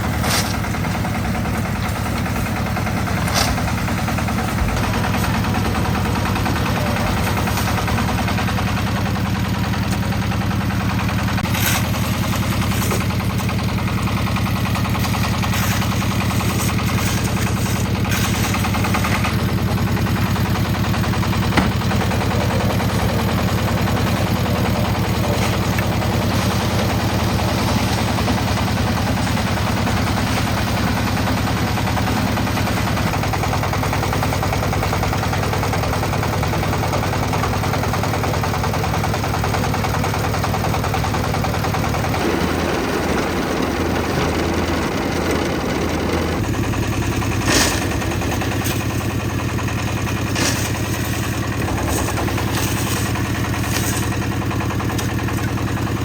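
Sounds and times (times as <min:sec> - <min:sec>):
concrete mixer engine chugging: 0:00.0 - 0:56.0.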